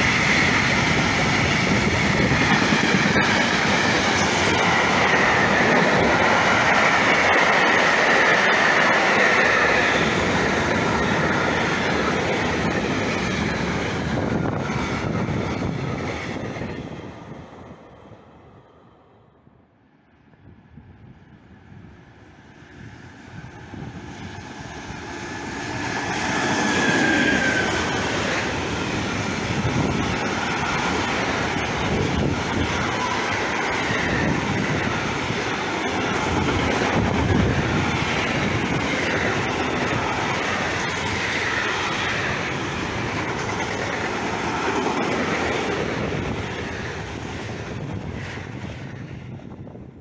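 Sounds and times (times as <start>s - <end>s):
locomotive whine: 0.0s - 50.0s.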